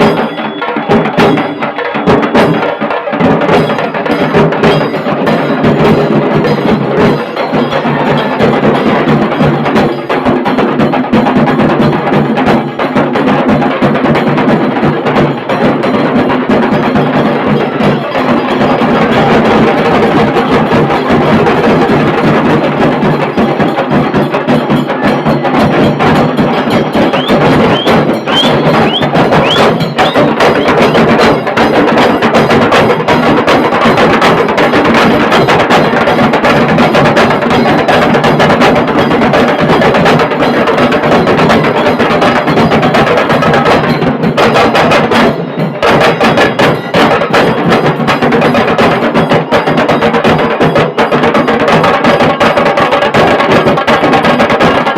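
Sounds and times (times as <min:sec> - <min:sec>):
drum band playing fast rolls: 0:00.0 - 0:54.9.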